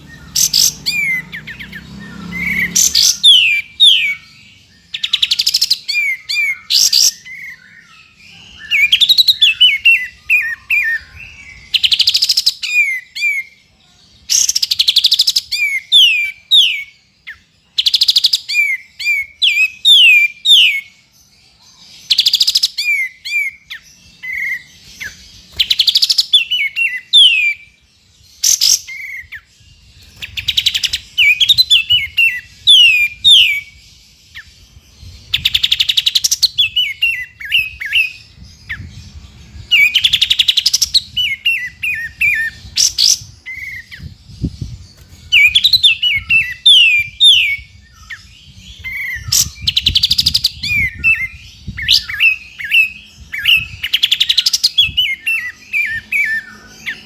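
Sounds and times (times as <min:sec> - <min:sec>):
bulbul whistling song: 0:00.0 - 0:57.0.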